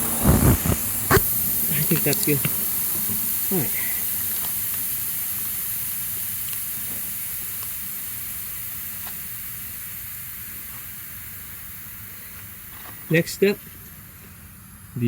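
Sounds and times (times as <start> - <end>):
air hissing out of tire: 0.0 - 15.0.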